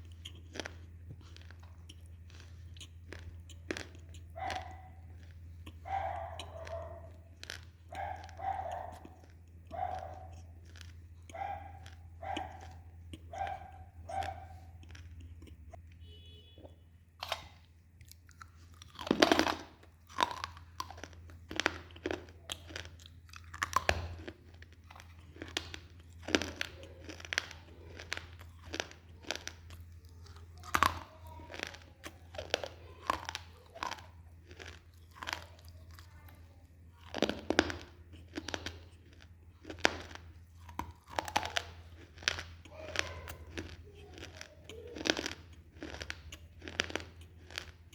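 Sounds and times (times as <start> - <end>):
crunchy chewing: 0.0 - 47.9
steady low hum: 0.0 - 47.9.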